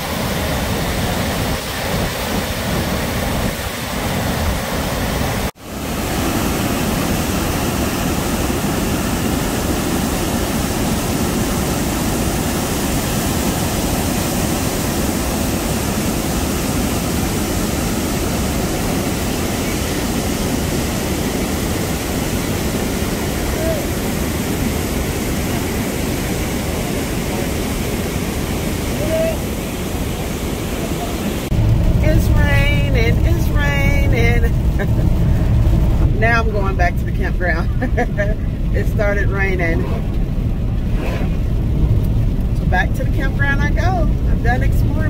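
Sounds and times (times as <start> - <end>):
roar of large waterfall: 0.0 - 45.0.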